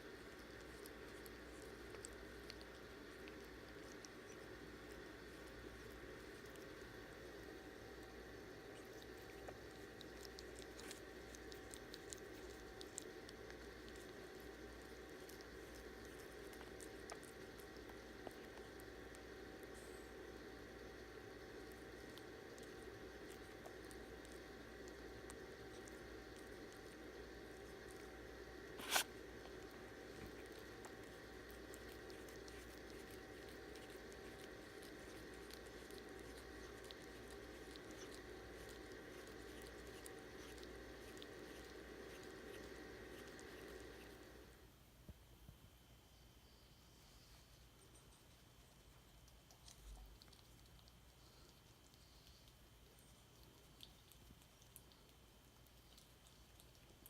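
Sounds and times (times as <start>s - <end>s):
ferret licking clicks: 0.0s - 19.8s, 21.2s - 44.1s, 48.8s - 57.0s
steady low hiss: 0.0s - 57.0s.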